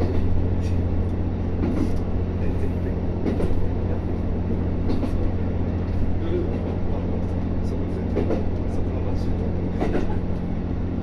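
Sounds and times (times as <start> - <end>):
diesel railcar engine drone: 0.0 - 11.0.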